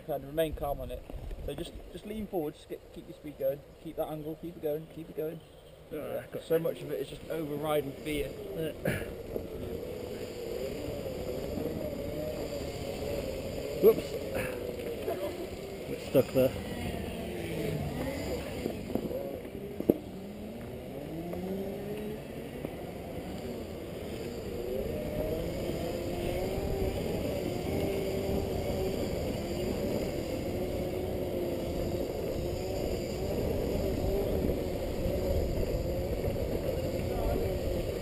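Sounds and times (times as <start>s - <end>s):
electric drive whining: 6.7s - 38.0s.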